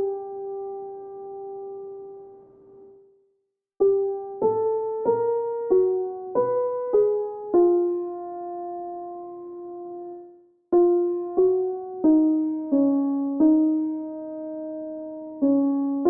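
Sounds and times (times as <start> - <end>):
slow soft piano notes: 0.0 - 3.1, 3.8 - 16.0.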